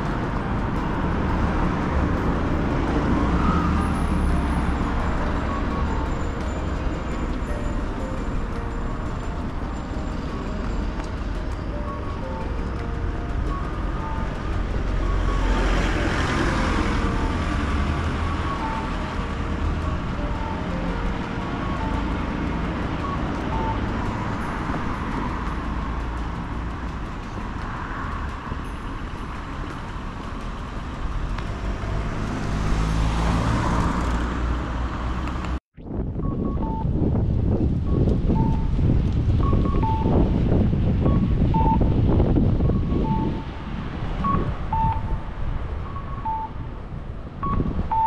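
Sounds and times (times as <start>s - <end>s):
traffic engines rumbling: 0.0s - 48.0s
vehicles passing close: 0.0s - 48.0s.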